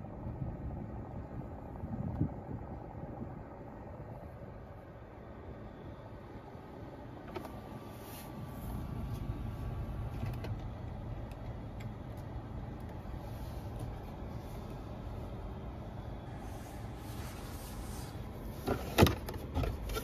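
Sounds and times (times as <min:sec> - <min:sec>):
low cabin rumble: 0:00.0 - 0:20.0.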